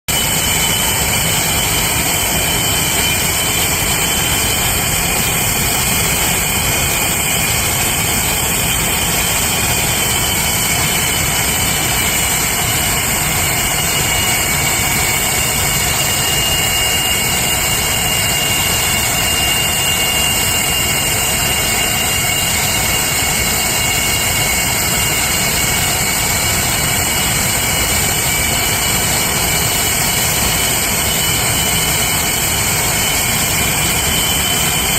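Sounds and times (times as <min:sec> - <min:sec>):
high engine whine: 0:00.1 - 0:34.9
jet engines running: 0:00.1 - 0:34.9.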